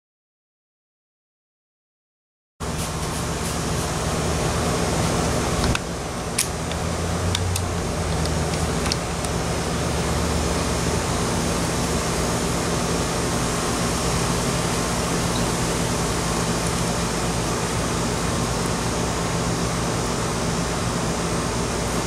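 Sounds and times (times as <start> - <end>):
mechanical hum with hiss: 2.6 - 22.0.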